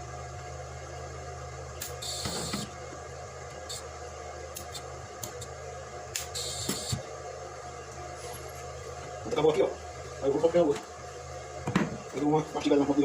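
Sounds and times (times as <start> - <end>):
arc welder humming: 0.0 - 13.0.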